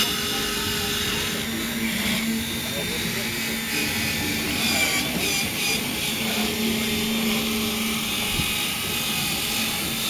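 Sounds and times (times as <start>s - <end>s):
rc model truck motor running: 0.0s - 10.0s.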